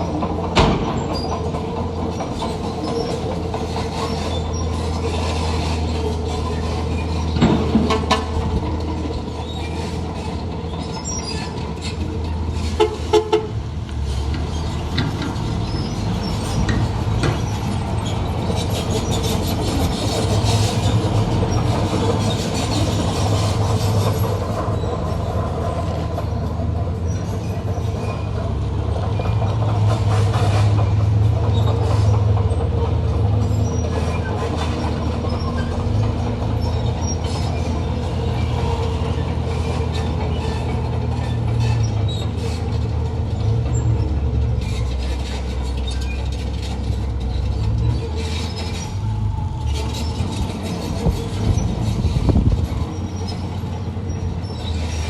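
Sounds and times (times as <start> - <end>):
diesel machinery engine drone: 0.0 - 55.0
metallic clanking and squeaking: 0.0 - 55.0.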